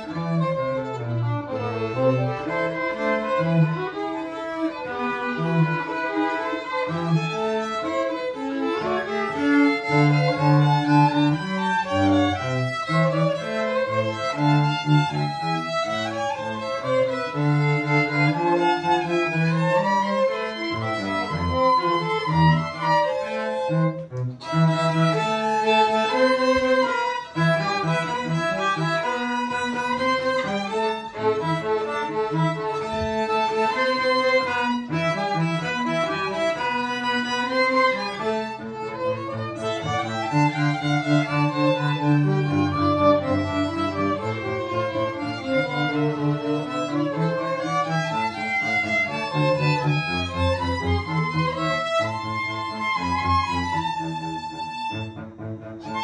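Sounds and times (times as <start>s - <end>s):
cellos and basses: 0.0s - 56.0s
violins: 0.0s - 56.0s.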